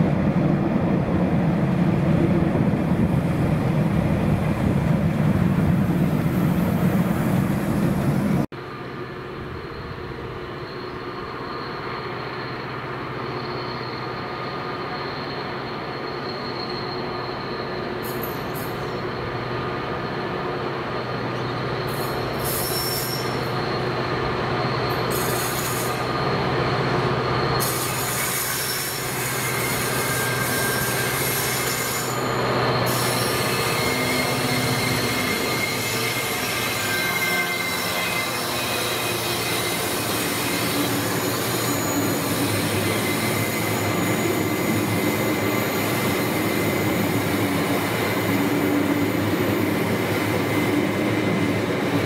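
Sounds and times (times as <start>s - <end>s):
diesel locomotive engine drone: 0.0s - 52.0s
wheels squealing: 9.7s - 52.0s.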